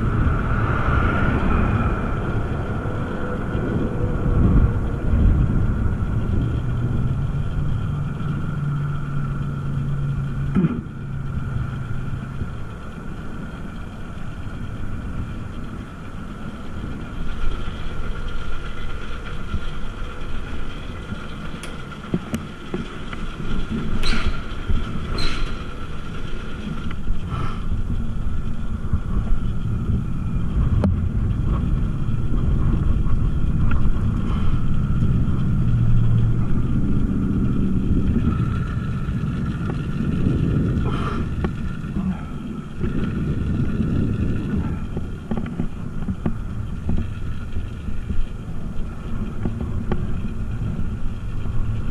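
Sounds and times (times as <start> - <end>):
low wind rumble: 0.0 - 51.9
sharp clicks and rattles: 3.0 - 51.9.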